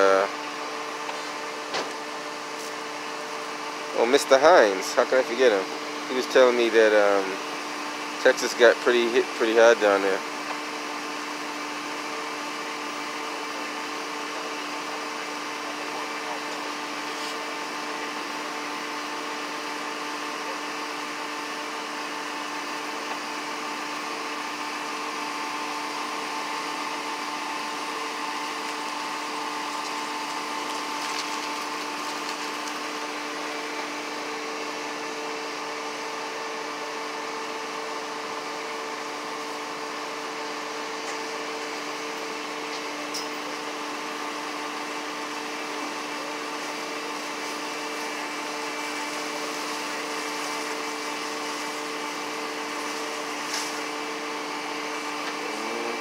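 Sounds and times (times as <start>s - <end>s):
mechanical hum with hiss: 0.0s - 56.0s.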